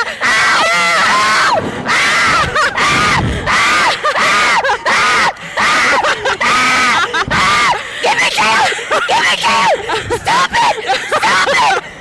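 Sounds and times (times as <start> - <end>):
women screaming: 0.0 - 11.8.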